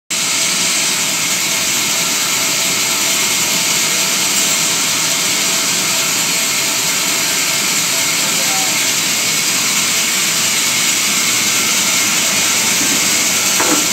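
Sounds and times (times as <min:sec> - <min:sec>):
band saw running: 0:00.1 - 0:13.9.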